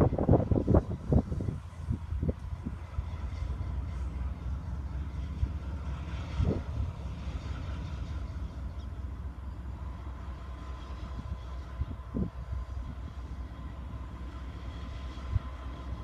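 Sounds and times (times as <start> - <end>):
diesel locomotive rumble: 0.0 - 16.0
wind buffeting microphone: 0.0 - 16.0.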